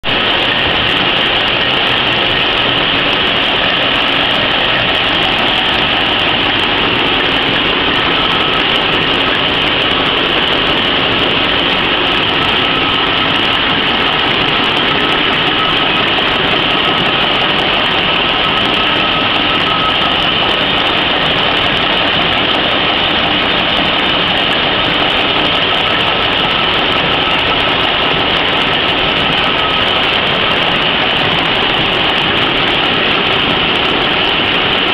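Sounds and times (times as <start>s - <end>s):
faint steady whine: 0.0s - 34.9s.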